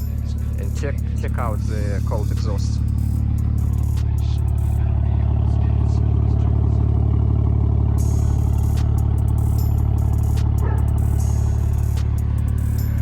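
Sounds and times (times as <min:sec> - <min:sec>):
car exhaust idling: 0:00.0 - 0:13.0.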